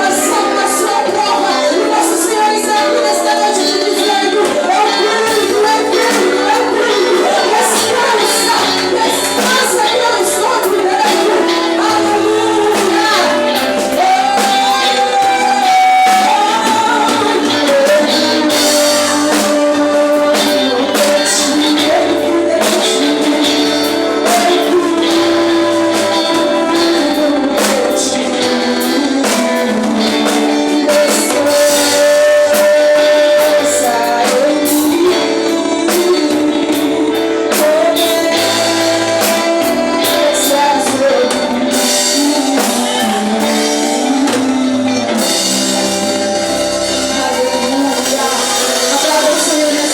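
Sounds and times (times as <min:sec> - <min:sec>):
band with drums and guitar: 0:00.0 - 0:49.9
person singing: 0:00.0 - 0:49.9.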